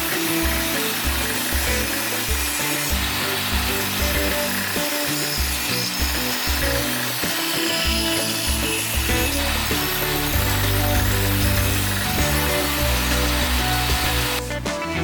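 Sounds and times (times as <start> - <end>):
tool rasping wood: 0.0 - 14.4
music with bass beat: 0.0 - 15.0.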